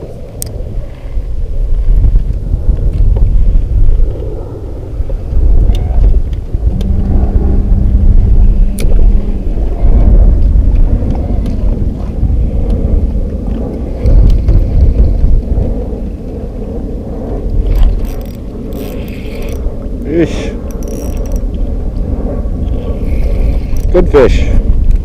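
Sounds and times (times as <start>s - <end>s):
steady low hum: 0.0s - 25.0s
wind buffeting microphone: 0.0s - 25.0s.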